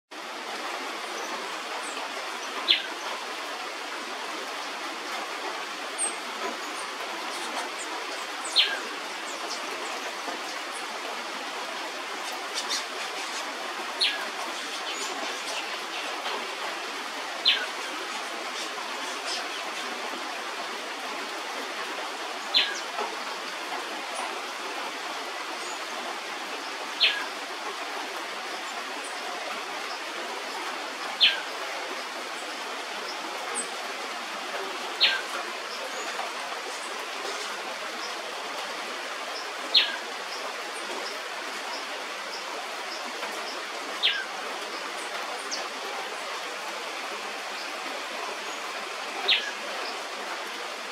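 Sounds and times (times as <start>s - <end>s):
rain hiss: 0.1s - 50.9s.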